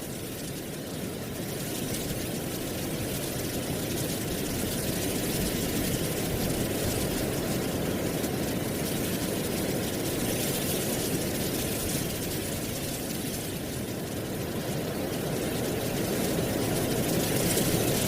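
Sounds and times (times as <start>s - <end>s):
wind rustling leaves: 0.0s - 18.0s.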